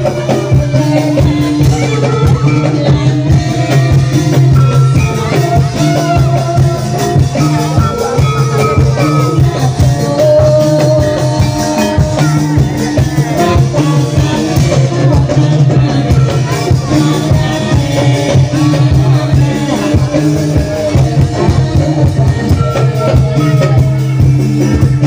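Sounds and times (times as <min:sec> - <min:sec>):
live band music over loudspeakers: 0:00.0 - 0:25.0
steady drum beat: 0:00.0 - 0:25.0.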